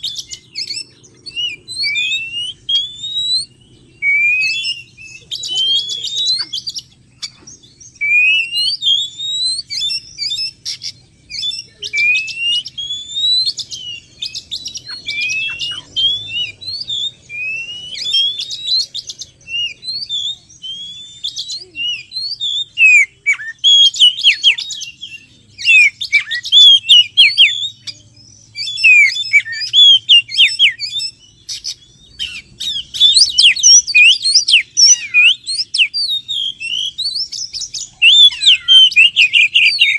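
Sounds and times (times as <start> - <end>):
magpie-robin song: 0.0 - 39.9.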